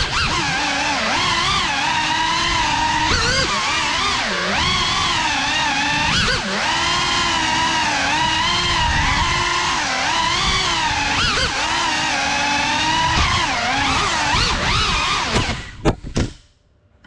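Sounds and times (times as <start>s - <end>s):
quadcopter motors whining: 0.0s - 15.9s.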